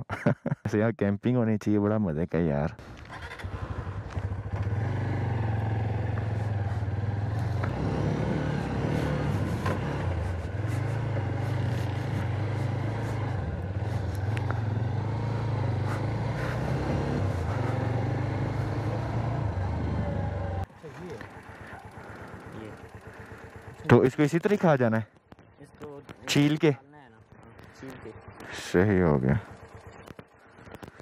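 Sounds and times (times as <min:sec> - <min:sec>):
motorcycle engine running: 0:02.8 - 0:31.0.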